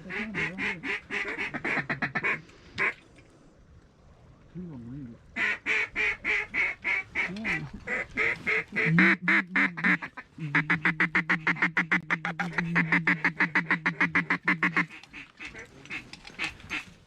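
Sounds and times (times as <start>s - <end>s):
duck call quacking: 0.0s - 3.0s, 5.4s - 16.8s.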